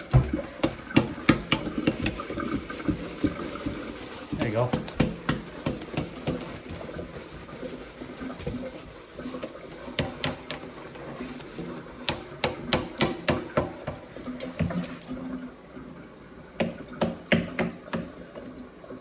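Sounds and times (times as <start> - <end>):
running water hiss: 0.0 - 19.0.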